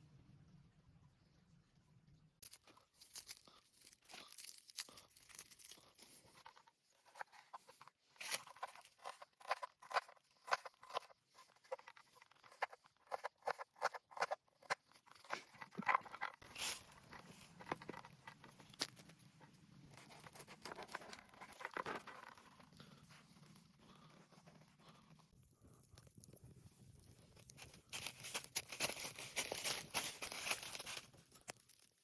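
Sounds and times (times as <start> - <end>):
crunching and crackling clicks: 2.4 - 32.0.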